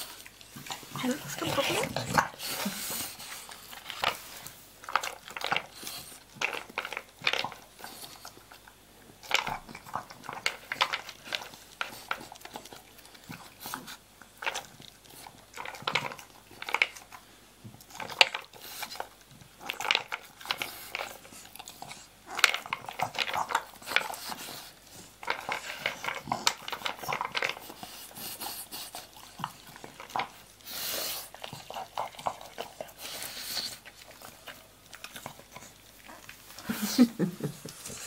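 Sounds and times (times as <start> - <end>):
dog crunching dry kibble: 0.0 - 37.0.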